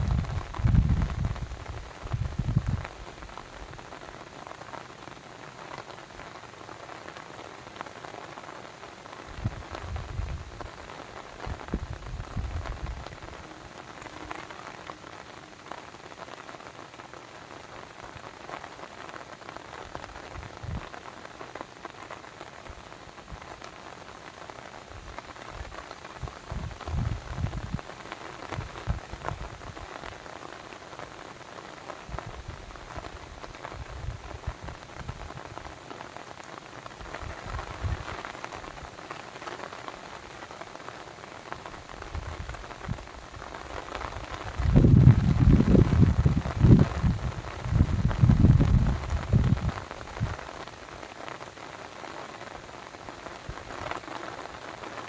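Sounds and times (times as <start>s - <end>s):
hiss and patter of water: 0.0s - 55.0s.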